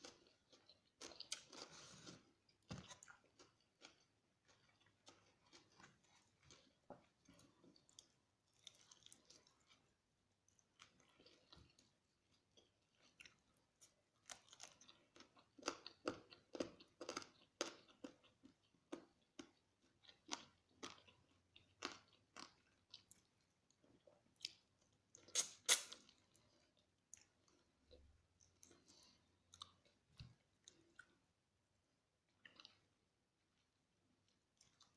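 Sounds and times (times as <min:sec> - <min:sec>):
chewing and crunching fried chicken: 0:00.0 - 0:34.9.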